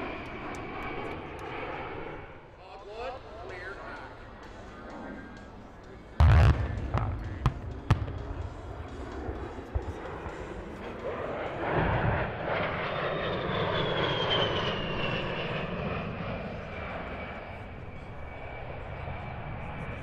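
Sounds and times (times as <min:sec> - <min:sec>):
high jet engine whine: 0:00.0 - 0:20.0
jet aircraft passing by: 0:00.0 - 0:20.0.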